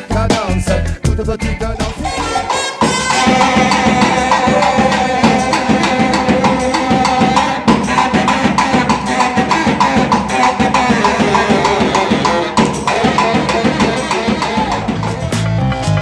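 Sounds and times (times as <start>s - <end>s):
reggae music: 0.0s - 16.0s
baritone saxophone riff: 1.6s - 15.9s
drum beat: 1.8s - 16.0s.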